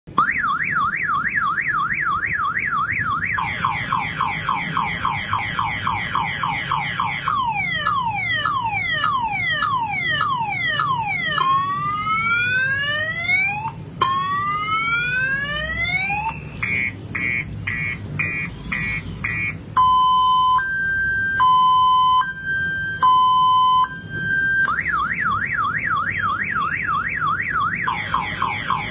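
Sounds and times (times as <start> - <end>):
car alarm siren: 0.1 - 28.9.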